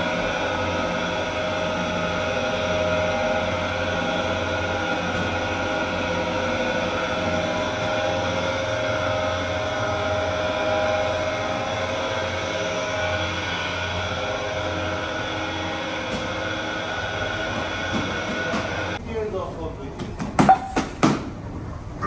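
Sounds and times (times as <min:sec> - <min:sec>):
dough mixer droning: 0:00.0 - 0:19.0.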